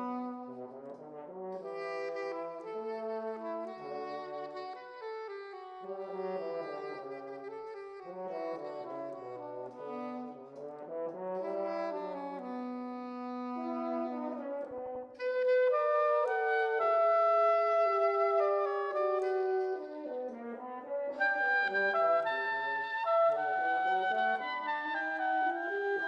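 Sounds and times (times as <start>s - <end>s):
french horn melody: 0.0s - 26.0s
soprano saxophone: 0.0s - 26.0s.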